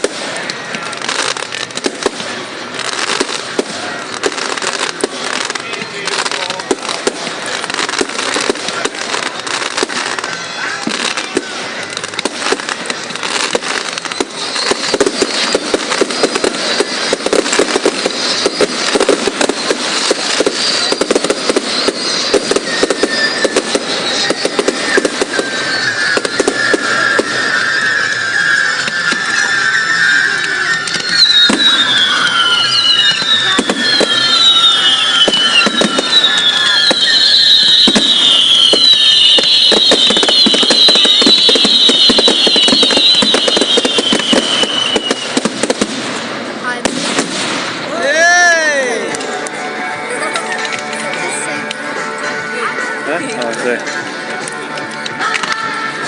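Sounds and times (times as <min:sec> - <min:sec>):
fireworks crackling and popping: 0:00.0 - 0:56.0
high steady whistling tone: 0:00.3 - 0:45.6.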